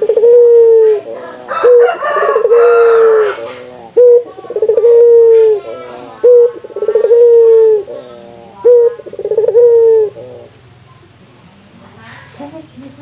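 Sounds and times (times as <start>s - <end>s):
dove cooing: 0.0s - 12.6s.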